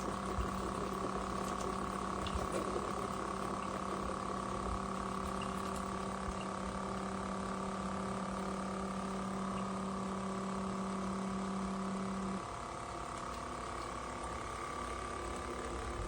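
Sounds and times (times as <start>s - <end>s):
machine electric hum: 0.0s - 16.0s.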